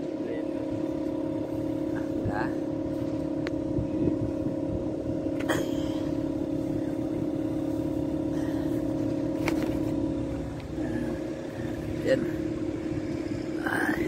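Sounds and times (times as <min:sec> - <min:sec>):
low rumble: 0:00.0 - 0:14.0
machine hum: 0:00.0 - 0:14.0.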